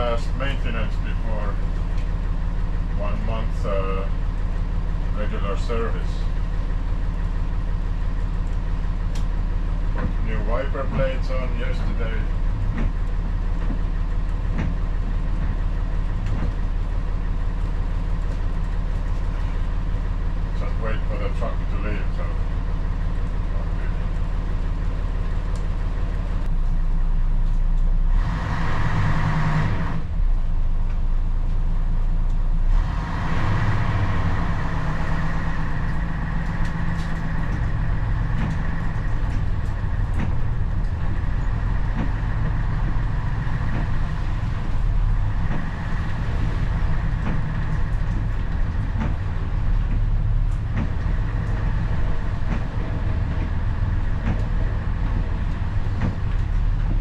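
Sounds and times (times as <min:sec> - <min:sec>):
diesel bus engine running: 0:00.0 - 0:57.0.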